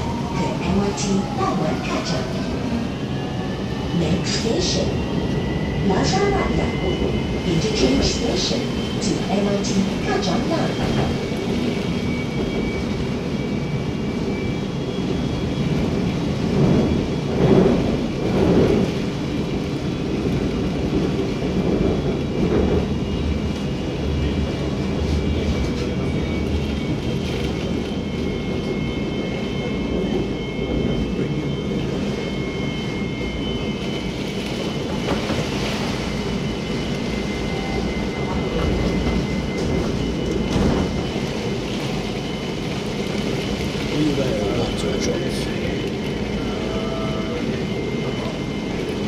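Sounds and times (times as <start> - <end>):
train cabin rumble with whine: 0.0 - 49.0.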